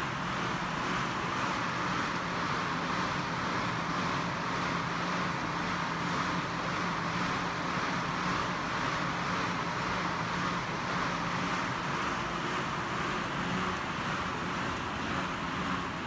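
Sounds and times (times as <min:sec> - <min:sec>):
fan wheel rushing air: 0:00.0 - 0:16.0.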